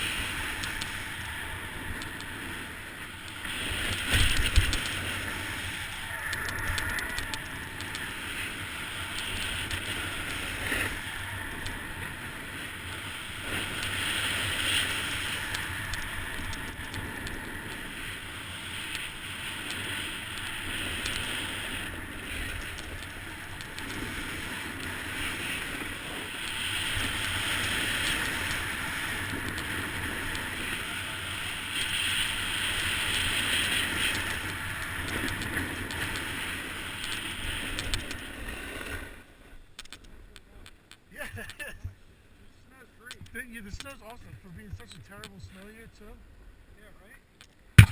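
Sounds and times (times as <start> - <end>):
wind rush on microphone: 0.0 - 39.2
skis scraping over snow: 0.0 - 39.6.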